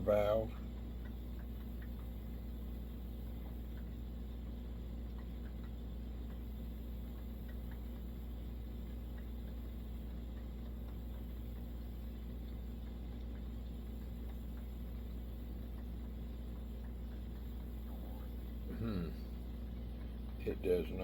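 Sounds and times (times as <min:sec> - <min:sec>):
low room hum: 0:00.0 - 0:21.0
faint small ticks: 0:00.6 - 0:20.4.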